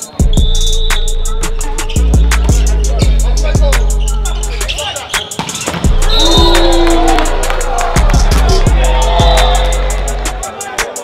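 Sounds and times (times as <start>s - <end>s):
hip hop beat: 0.0s - 11.0s
deep bass line: 0.4s - 4.7s, 5.9s - 10.4s.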